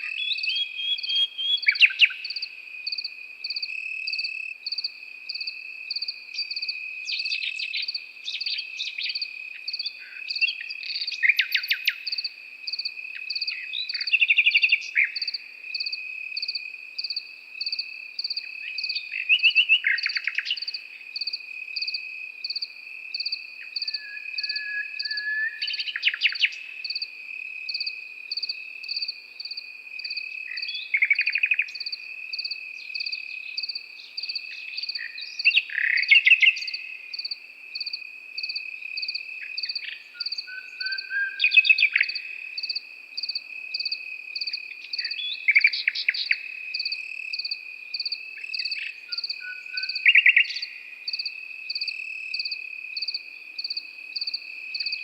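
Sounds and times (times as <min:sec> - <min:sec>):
cricket chirping in regular pulse: 0:00.0 - 0:55.0
cricket continuous trill: 0:00.0 - 0:55.0
nightingale singing trilled phrases: 0:00.0 - 0:55.0.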